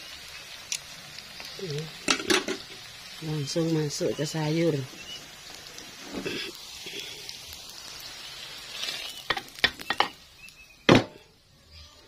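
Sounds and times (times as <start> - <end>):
spice paste sizzling in wok: 0.0 - 12.0.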